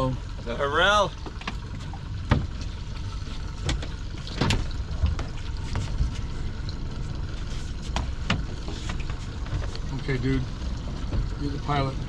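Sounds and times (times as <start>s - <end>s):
steady low rumble: 0.0s - 12.0s
water slapping against boat hull: 1.1s - 12.0s.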